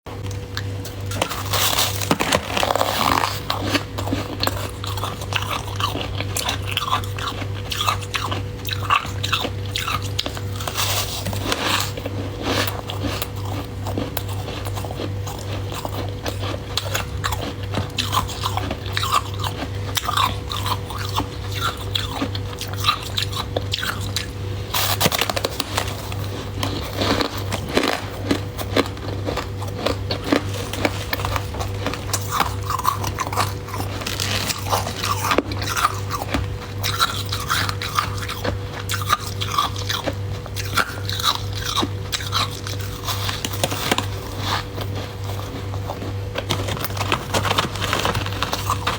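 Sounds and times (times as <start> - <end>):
crunching and chewing frost: 0.1 - 48.9
steady low hum: 0.1 - 48.9.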